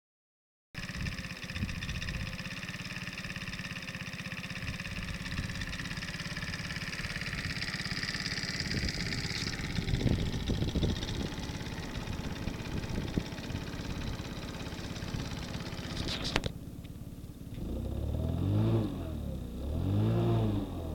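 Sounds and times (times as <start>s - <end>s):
small engine idling: 0.8s - 20.9s.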